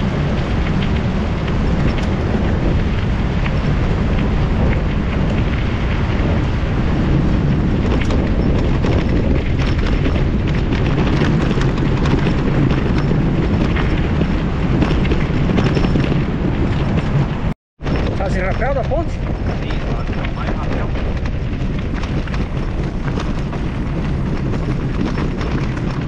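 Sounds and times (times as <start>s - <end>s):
bike rattles and knocks: 0.0s - 26.0s
tyres rumbling on dirt road: 0.0s - 26.0s
wind buffeting microphone: 0.0s - 26.0s.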